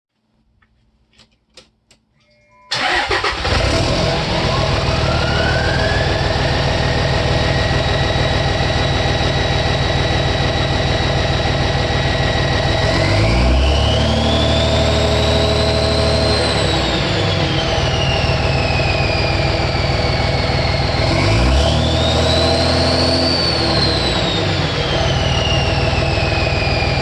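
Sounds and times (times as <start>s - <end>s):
diesel engine starting and idling: 2.7s - 27.0s.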